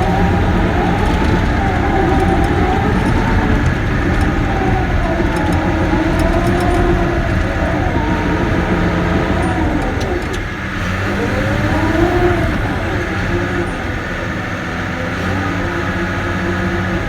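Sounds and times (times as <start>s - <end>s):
wavering whine: 0.0s - 14.4s
bulldozer diesel engine running: 0.0s - 17.0s.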